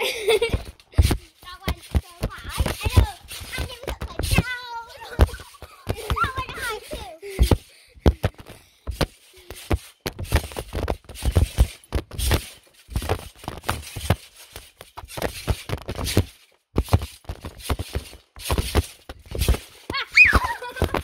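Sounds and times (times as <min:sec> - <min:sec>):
scraping and rubbing on mat: 0:00.3 - 0:21.0.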